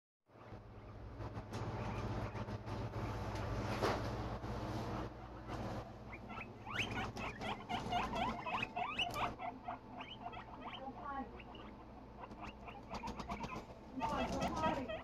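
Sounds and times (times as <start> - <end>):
guinea pigs wheeking: 0.3 - 4.0, 4.8 - 15.0.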